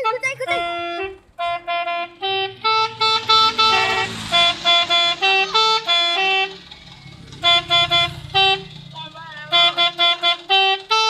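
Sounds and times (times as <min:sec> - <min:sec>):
multi-tone bus horn tune: 0:00.0 - 0:11.0.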